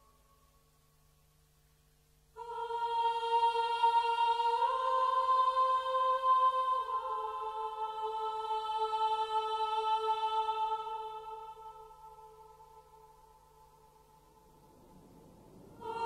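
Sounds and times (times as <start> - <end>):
chant-like sung note: 2.4 - 16.0.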